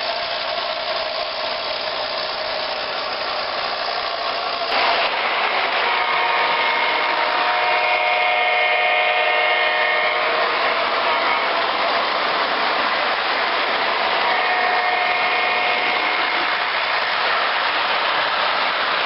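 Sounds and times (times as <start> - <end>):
train rolling past: 0.0 - 19.0.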